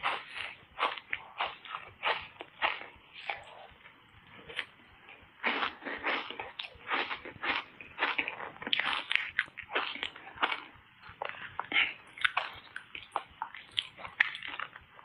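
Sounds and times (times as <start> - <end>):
crunchy ice being chewed: 0.0 - 3.7, 5.4 - 14.9.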